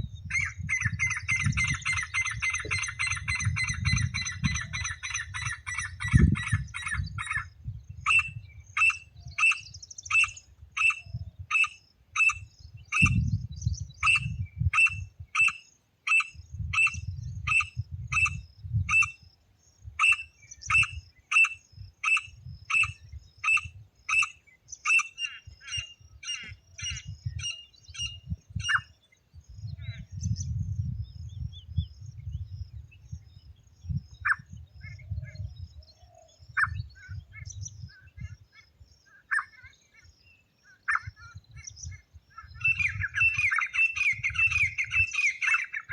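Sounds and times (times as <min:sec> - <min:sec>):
francolin calling: 0:00.0 - 0:45.9.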